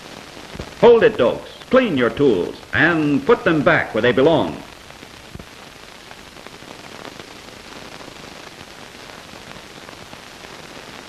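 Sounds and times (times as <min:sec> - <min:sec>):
faint crackles: 0:00.0 - 0:11.0
film soundtrack hiss: 0:00.0 - 0:11.0.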